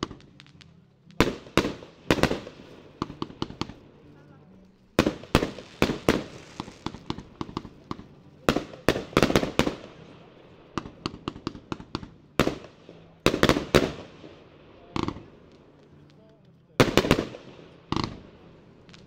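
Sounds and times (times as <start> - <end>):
fireworks popping: 0.0 - 19.0
fireworks reports: 0.0 - 19.0.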